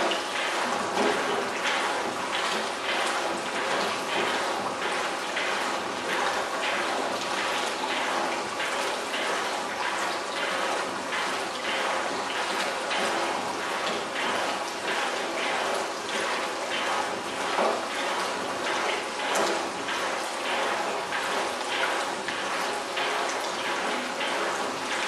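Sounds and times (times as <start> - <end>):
running and splashing water: 0.0 - 25.0.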